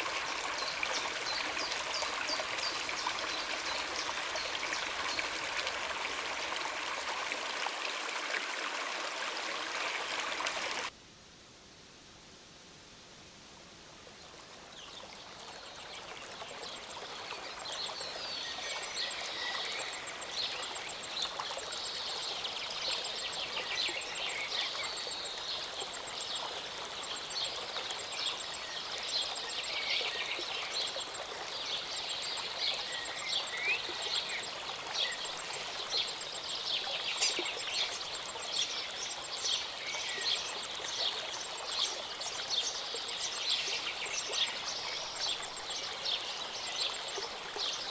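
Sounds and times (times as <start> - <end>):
stream running: 0.0 - 11.0, 13.9 - 47.9.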